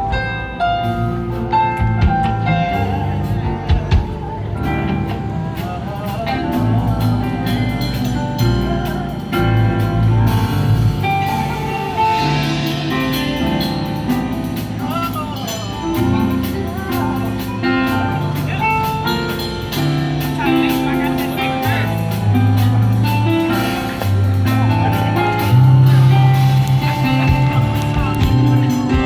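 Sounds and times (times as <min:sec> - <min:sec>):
song with band and singer: 0:00.0 - 0:29.0.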